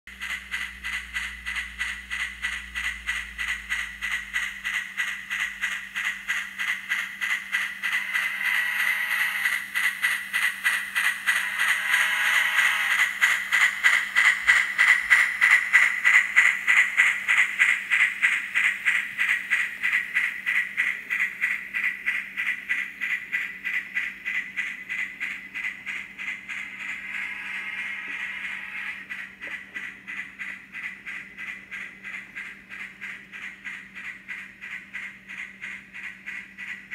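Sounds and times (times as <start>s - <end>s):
model train clicking: 0.1s - 36.9s.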